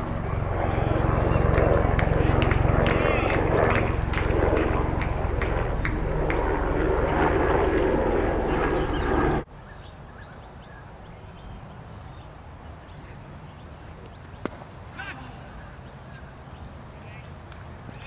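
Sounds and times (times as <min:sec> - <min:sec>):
loud rumbling outdoor noise: 0:00.0 - 0:18.0
outdoor ambience: 0:00.0 - 0:18.0.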